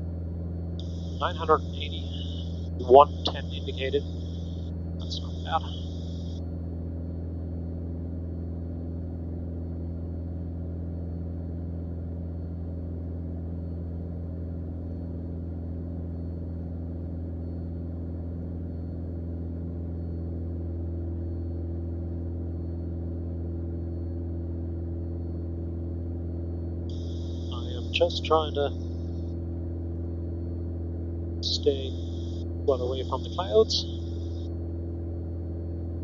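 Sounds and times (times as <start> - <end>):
airplane engine and propeller drone: 0.0 - 36.0.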